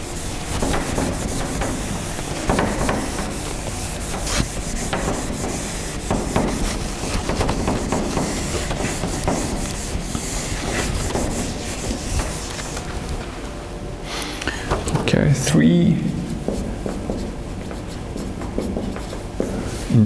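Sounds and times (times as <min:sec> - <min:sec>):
eraser rubbing on whiteboard: 0:00.0 - 0:13.2, 0:16.2 - 0:20.0.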